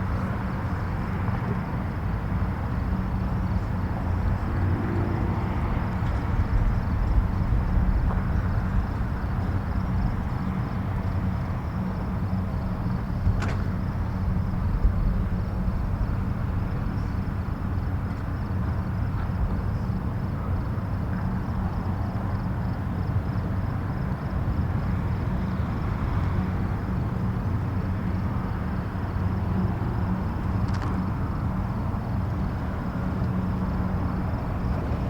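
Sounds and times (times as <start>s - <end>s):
distant highway traffic rumble: 0.0s - 35.0s.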